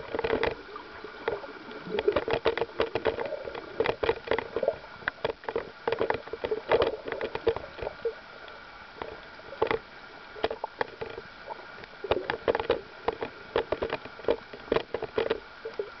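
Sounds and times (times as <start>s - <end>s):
bubbly sloshing water: 0.0s - 16.0s
underwater clicks and crackles: 0.0s - 16.0s.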